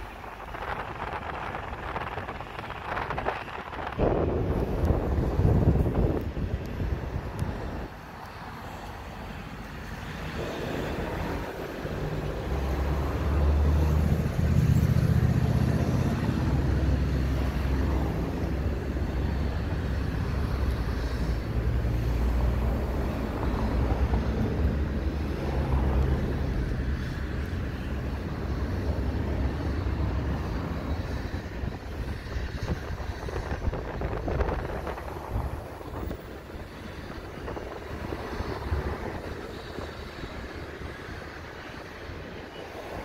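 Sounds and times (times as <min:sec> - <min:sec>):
train engine droning: 0:00.0 - 0:43.0.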